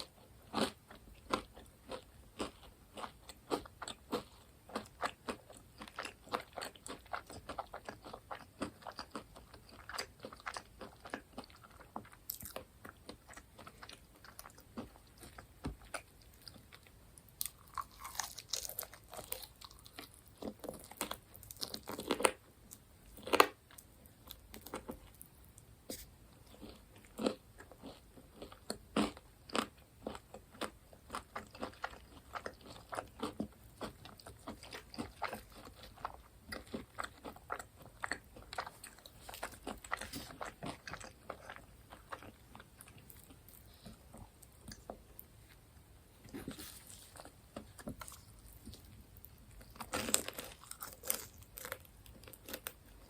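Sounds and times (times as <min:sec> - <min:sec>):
chewing crispy food: 0:00.0 - 0:53.0.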